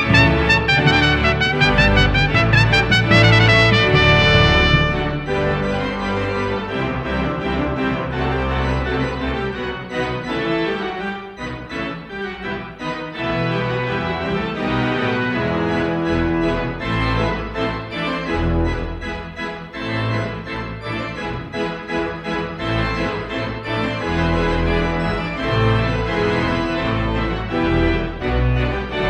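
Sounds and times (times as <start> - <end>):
organ music: 0.0 - 29.0.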